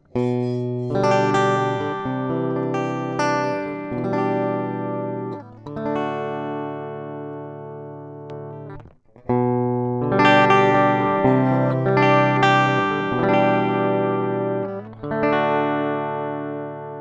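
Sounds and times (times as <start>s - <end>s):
electric guitar ringing chords: 0.0s - 17.0s.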